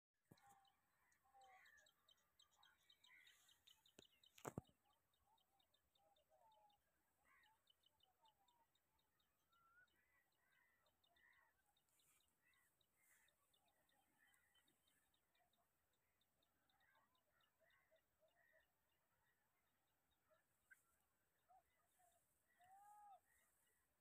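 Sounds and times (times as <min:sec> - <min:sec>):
faint birdsong with chirps: 0:00.2 - 0:24.0.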